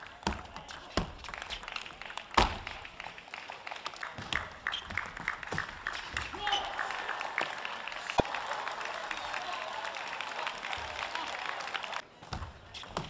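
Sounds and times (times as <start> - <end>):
people clapping: 0.0 - 12.2.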